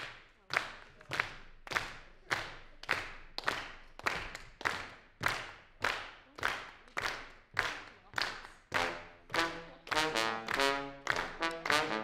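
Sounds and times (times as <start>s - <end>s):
hands clapping with echo: 0.0s - 12.0s.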